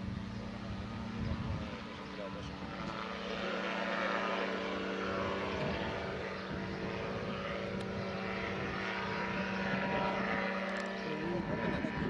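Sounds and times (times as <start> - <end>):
gyrocopter flying past: 0.0 - 12.0.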